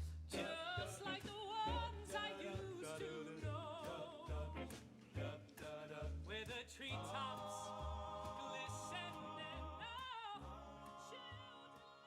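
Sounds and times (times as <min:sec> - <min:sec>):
low beat: 0:00.0 - 0:11.4.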